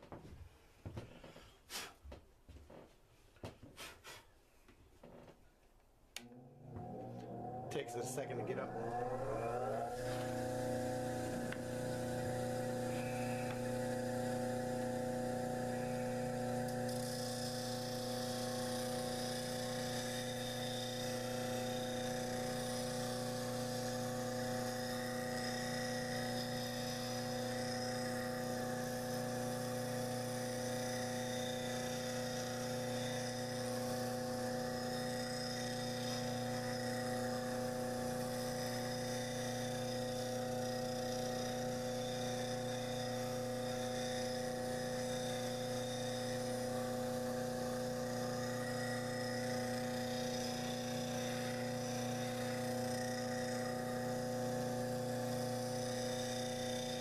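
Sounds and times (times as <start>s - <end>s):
electric motor humming: 6.2s - 57.0s
metal gouge grinding on abrasive: 7.7s - 57.0s.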